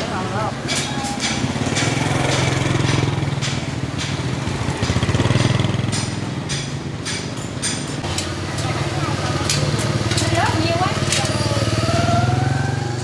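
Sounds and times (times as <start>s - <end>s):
motorbike engine idling: 0.0s - 13.0s.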